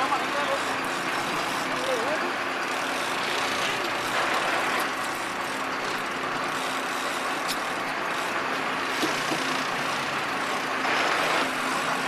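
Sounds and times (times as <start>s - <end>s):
boat engine rushing: 0.0s - 12.0s.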